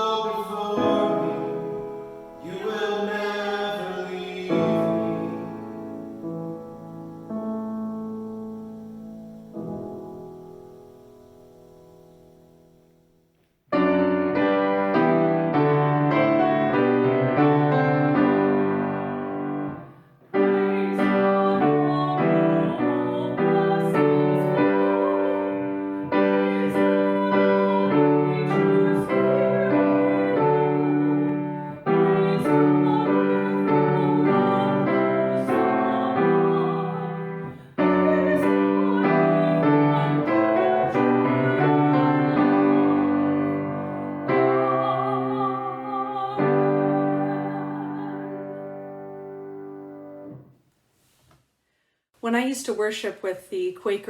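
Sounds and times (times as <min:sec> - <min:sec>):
slow piano music: 0:00.0 - 0:50.5.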